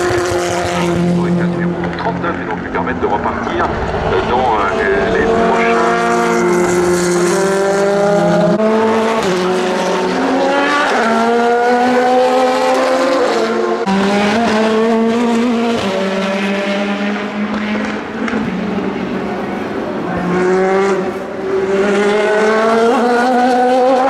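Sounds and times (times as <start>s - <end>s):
race car engines at full throttle: 0.0s - 24.0s.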